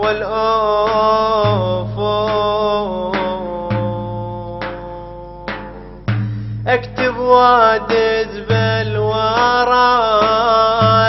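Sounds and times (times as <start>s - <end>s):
man singing long wavering notes: 0.0s - 6.1s, 6.7s - 11.0s
instrumental backing with bass: 0.0s - 11.0s
sharp percussion hits: 0.0s - 11.0s.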